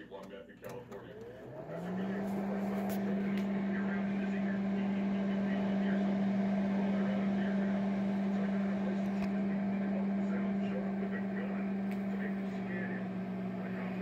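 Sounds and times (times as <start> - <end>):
microwave oven hum: 0.0 - 14.0
rushing fan noise: 1.1 - 14.0.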